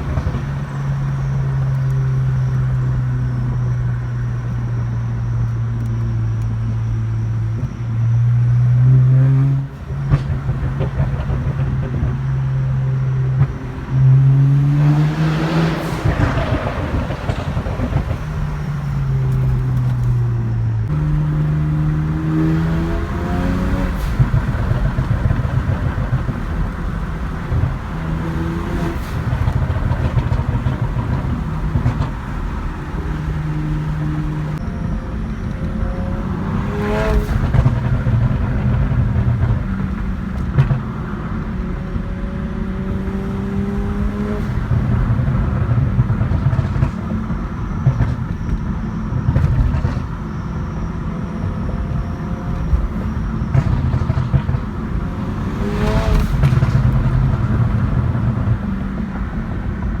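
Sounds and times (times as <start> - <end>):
exhaust pops and crackles: 0.0 - 3.7, 9.6 - 60.0
car engine accelerating hard: 0.0 - 60.0.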